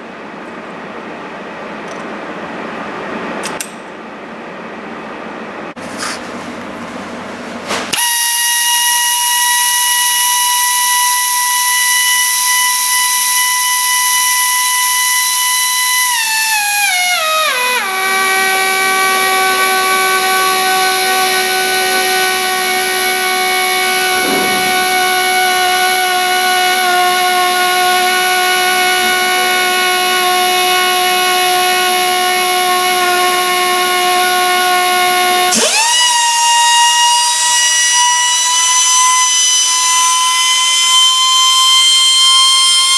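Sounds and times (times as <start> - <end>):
grinder motor whining: 8.0 - 42.9.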